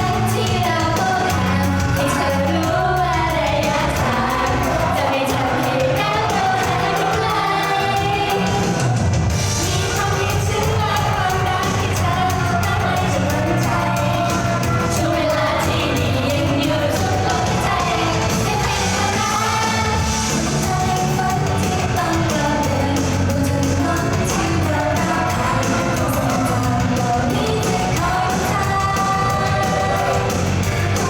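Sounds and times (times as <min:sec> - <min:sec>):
live pop song with vocals: 0:00.0 - 0:31.0.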